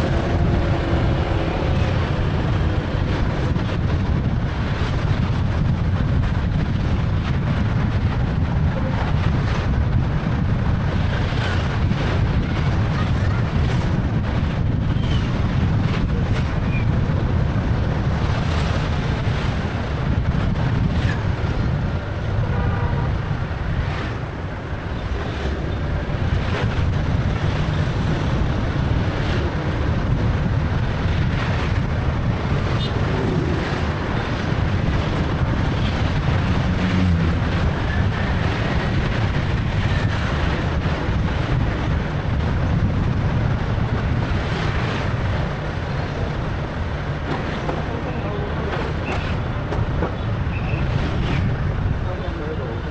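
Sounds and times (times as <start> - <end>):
motorbike engine and road rumble: 0.0 - 52.9
wind rushing over microphone: 0.0 - 52.9.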